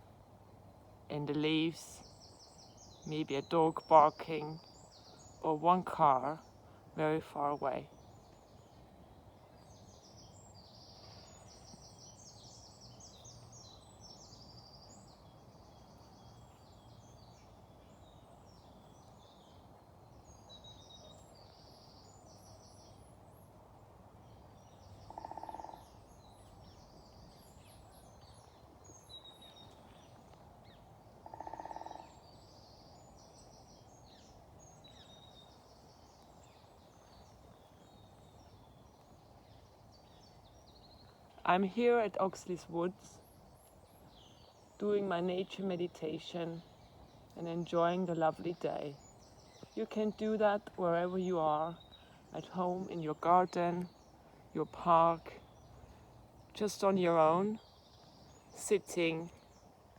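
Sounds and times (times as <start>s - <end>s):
low steady hiss: 0.0s - 59.9s
small birds chirping and trilling: 1.3s - 59.9s.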